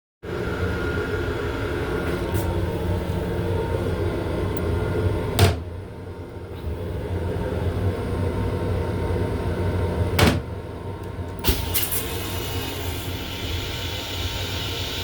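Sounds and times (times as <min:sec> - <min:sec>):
train low rumble and hum: 0:00.2 - 0:15.0.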